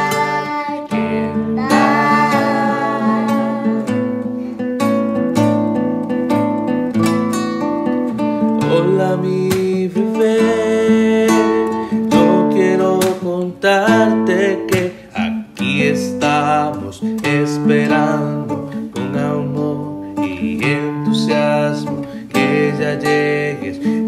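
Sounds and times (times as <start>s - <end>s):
strummed acoustic guitar music: 0.0s - 24.0s.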